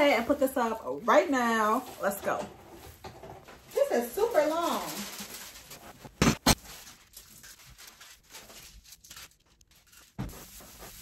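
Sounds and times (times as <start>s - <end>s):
foil and plastic rustling: 0.0s - 11.0s.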